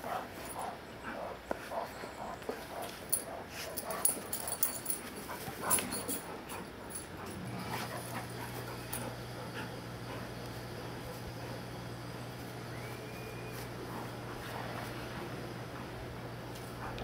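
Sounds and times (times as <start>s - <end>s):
dogs scuffling and clicking: 0.0s - 11.7s, 12.4s - 17.0s
steady low hum: 0.0s - 17.0s.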